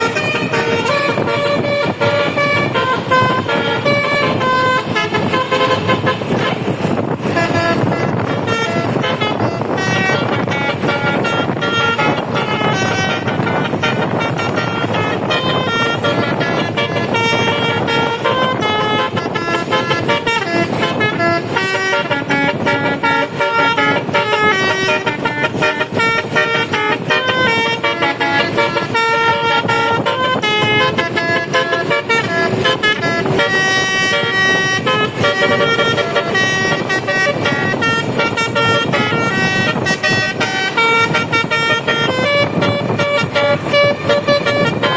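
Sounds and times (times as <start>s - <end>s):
bus multi-tone horn tune: 0.0s - 44.9s.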